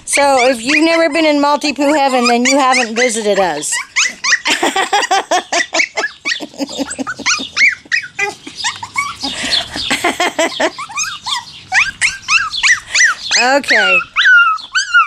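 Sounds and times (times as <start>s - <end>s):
puppies yipping and squealing: 0.0s - 15.0s.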